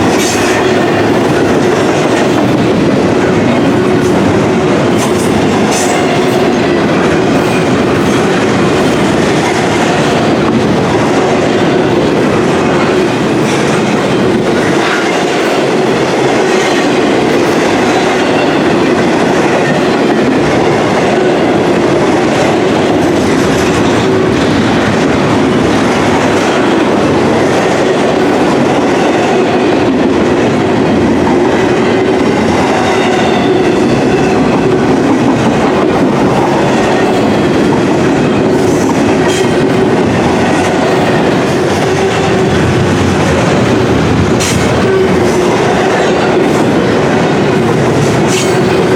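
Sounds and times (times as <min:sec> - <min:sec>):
steel wheels rolling on rail: 0:00.0 - 0:48.9.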